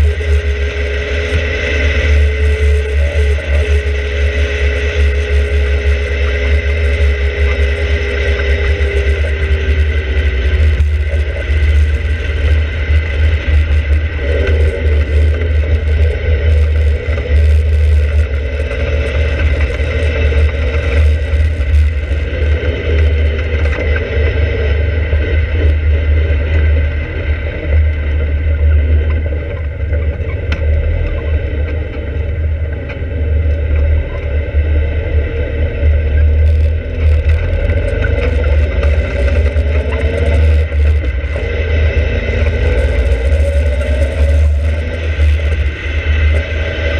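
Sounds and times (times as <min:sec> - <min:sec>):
sports car engine: 0:00.0 - 0:46.9.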